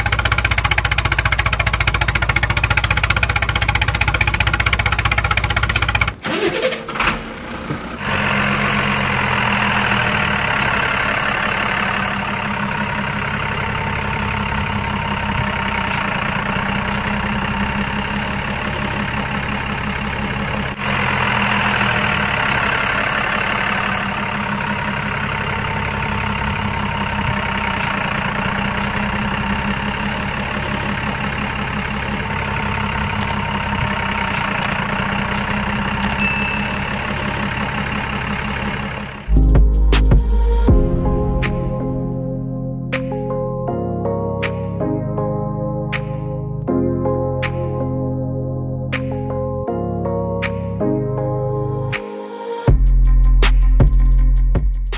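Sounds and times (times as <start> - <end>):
truck engine idling: 0.0 - 44.8.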